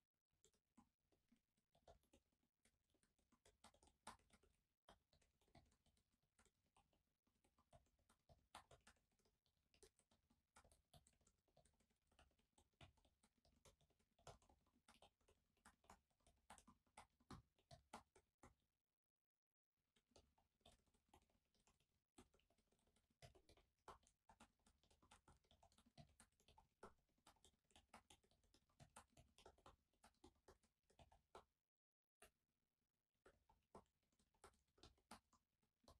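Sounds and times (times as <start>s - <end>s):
laptop keyboard typing: 1.6s - 18.6s, 20.0s - 31.6s, 33.2s - 35.9s.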